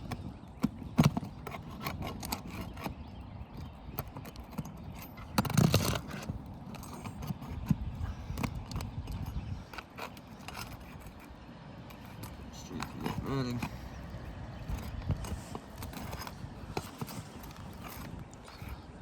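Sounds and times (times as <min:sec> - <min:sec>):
hand tools clicking on shingles: 0:00.0 - 0:19.0
scraping rattle of nails pried: 0:00.0 - 0:19.0.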